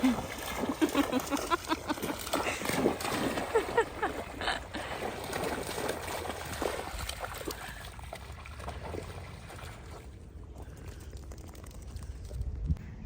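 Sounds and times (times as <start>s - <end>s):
dog wading through water: 0.0s - 12.4s.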